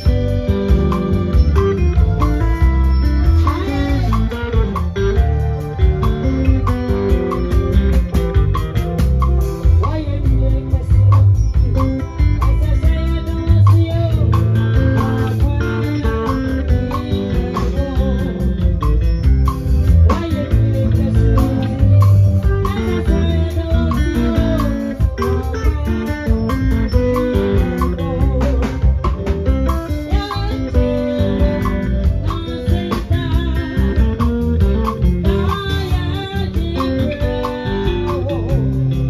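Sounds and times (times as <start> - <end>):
bass guitar: 0.0 - 39.0
drum kit beat: 0.0 - 39.0
electric guitar: 0.0 - 39.0
keyboard: 0.0 - 39.0
woman singing into a microphone: 2.9 - 6.9, 9.6 - 39.0.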